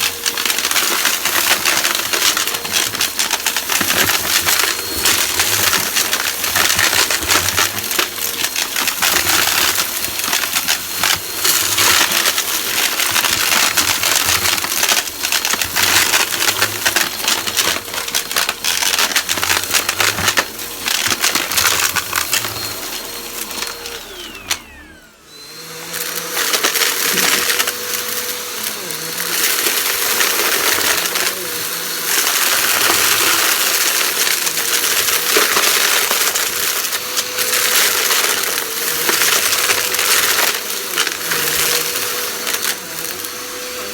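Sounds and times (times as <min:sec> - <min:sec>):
vacuum cleaner motor whining: 0:00.0 - 0:43.9.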